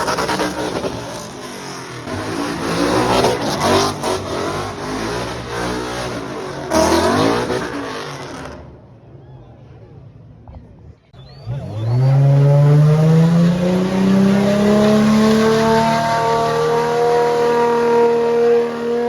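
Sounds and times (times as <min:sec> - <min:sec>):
car engine revving hard: 0:00.0 - 0:08.8, 0:11.4 - 0:19.0.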